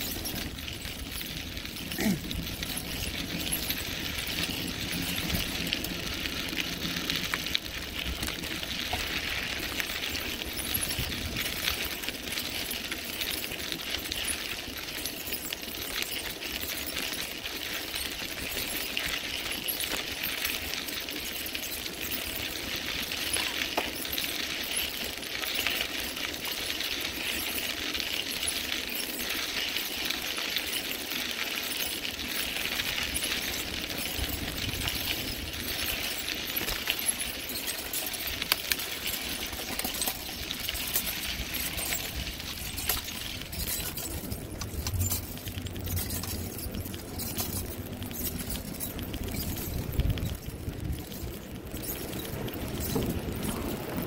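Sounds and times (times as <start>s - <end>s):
bicycle tyres on crushed stone: 0.0s - 54.0s.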